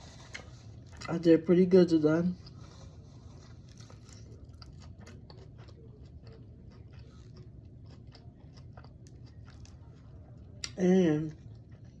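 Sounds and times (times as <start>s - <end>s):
person chewing salad: 0.0s - 1.2s, 2.3s - 12.0s.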